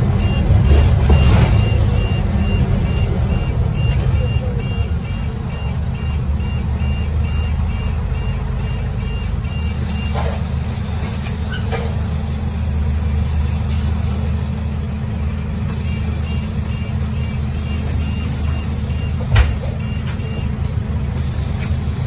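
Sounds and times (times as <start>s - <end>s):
bus door warning beeper: 0.0s - 14.3s, 15.6s - 22.0s
bus engine idling: 0.0s - 22.0s.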